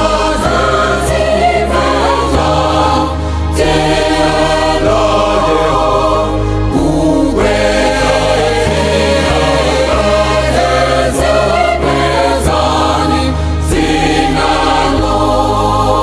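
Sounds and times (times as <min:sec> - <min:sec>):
gospel choir singing: 0:00.0 - 0:16.0
sustained bass notes: 0:00.0 - 0:16.0.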